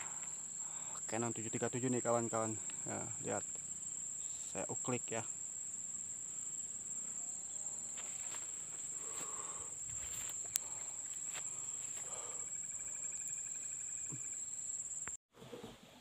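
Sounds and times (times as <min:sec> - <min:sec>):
insects droning: 0:00.0 - 0:15.2.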